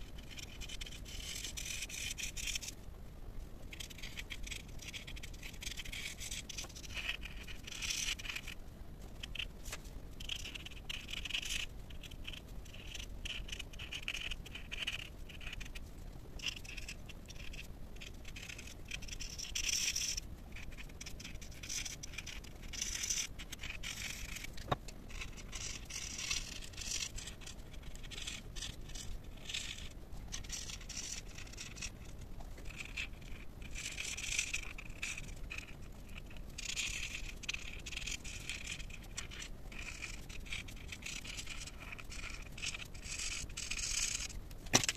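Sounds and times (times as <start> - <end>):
marker scratching on paper: 0.2 - 2.7, 3.7 - 8.6, 10.2 - 15.8, 16.4 - 44.9.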